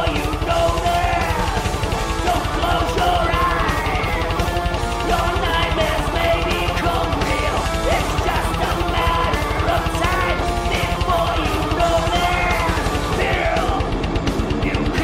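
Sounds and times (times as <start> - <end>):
fast drumming: 0.0 - 15.0
heavy metal band playing: 0.0 - 15.0.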